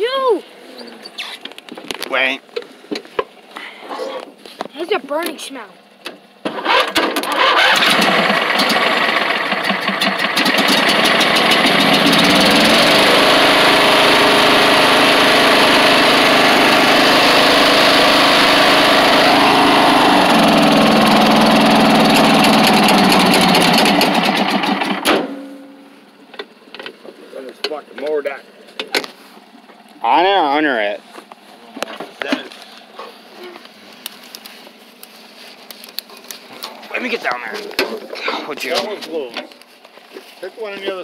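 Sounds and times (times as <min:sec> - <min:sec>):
riding mower engine running: 0:01.4 - 0:41.0.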